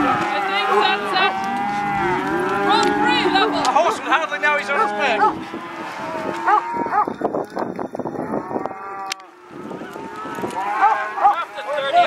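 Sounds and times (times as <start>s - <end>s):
calves bawling: 0.0s - 12.0s.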